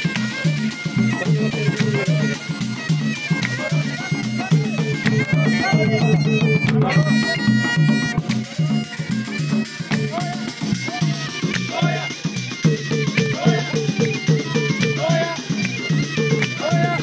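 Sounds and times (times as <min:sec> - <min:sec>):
bagpipe melody over drone: 0:00.0 - 0:17.0
hand drum beat: 0:00.0 - 0:17.0.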